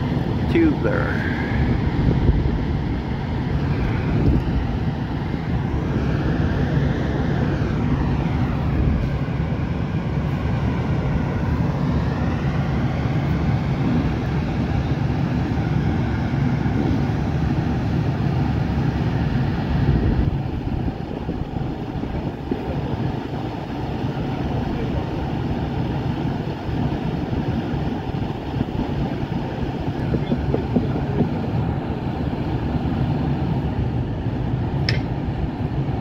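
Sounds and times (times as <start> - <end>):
excavator engine rumbling: 0.0 - 36.0
hydraulic whine: 0.0 - 36.0.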